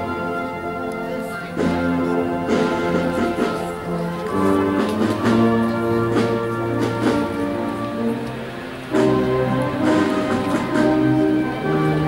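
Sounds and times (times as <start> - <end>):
slow band music: 0.0 - 12.0.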